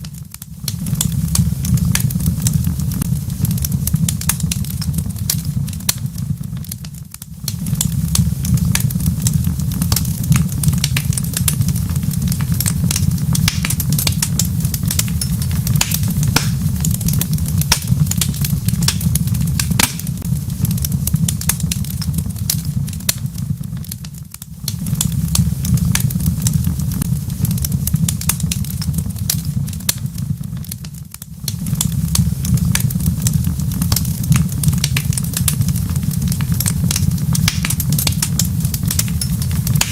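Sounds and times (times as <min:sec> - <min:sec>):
wood fire crackling: 0:00.0 - 0:39.9
low rumble: 0:00.5 - 0:39.9.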